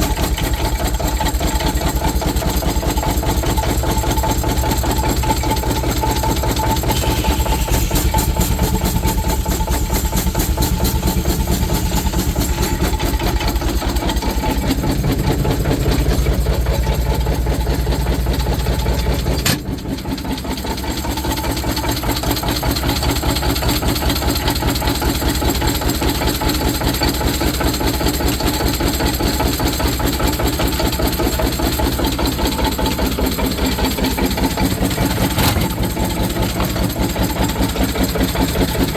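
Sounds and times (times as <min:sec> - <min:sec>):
steam engine beating: 0:00.0 - 0:29.5, 0:31.0 - 0:38.9.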